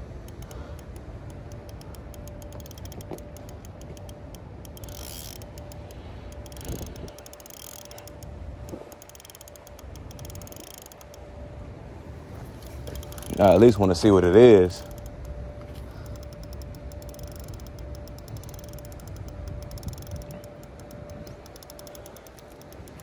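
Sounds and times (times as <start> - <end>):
fishing reel clicking rapidly: 0.2 - 11.2, 12.6 - 15.3, 15.9 - 23.0.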